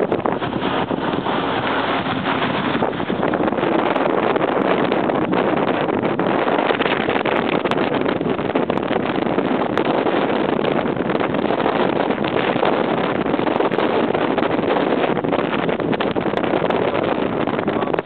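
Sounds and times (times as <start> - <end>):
car road noise: 0.0 - 18.0
wind rushing: 0.0 - 18.0.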